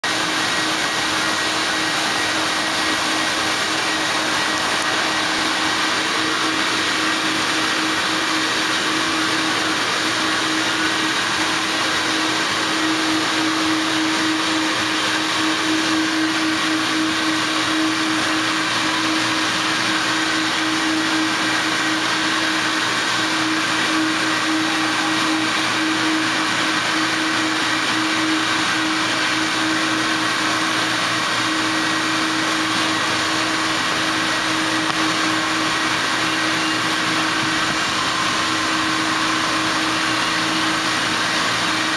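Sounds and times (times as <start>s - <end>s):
vacuum pump hissing and humming: 0.0s - 41.9s.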